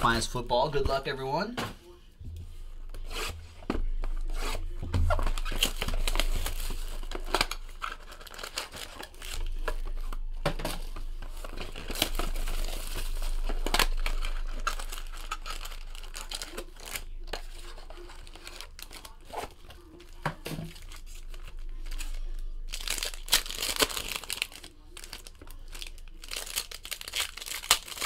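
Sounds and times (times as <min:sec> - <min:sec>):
low steady hum: 0:00.0 - 0:28.0
packs rustling and crinkling: 0:03.1 - 0:28.0.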